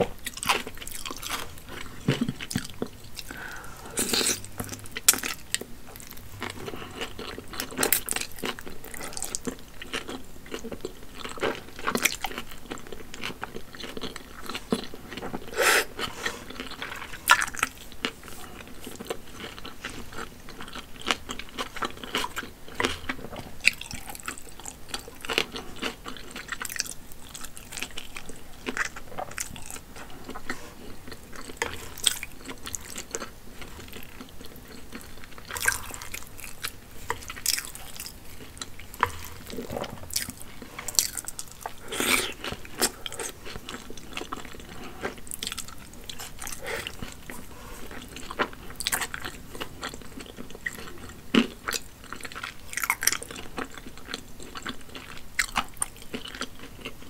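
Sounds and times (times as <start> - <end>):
slurping and chewing noodles: 0.2 - 57.0.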